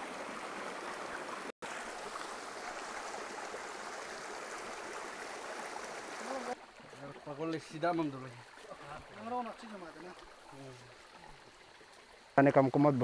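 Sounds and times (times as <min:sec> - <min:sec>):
water flowing over stones: 0:00.0 - 0:13.0.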